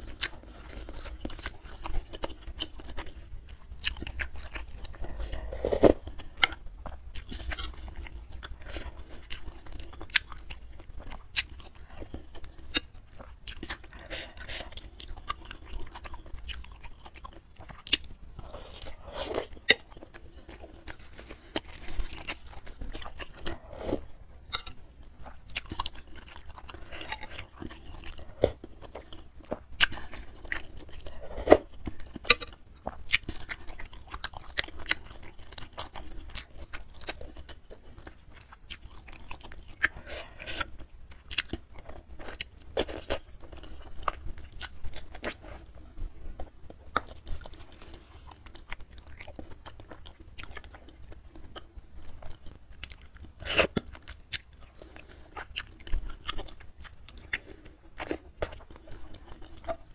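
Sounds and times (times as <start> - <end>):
close chewing and biting: 0.0 - 59.9.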